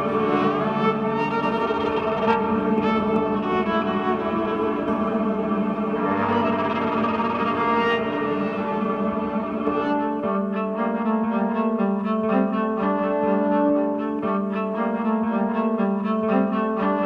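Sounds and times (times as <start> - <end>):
pulsing repeated cello notes: 0.0 - 17.0
sustained bowed cello notes: 0.0 - 17.0.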